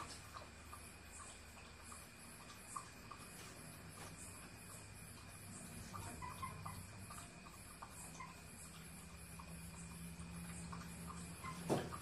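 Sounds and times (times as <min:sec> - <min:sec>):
insects chirping: 0:00.0 - 0:12.0
low steady hum: 0:00.0 - 0:12.0.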